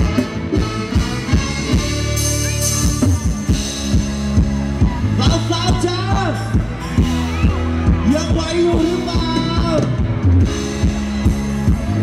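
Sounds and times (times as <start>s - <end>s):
live band dance music: 0.0s - 12.0s.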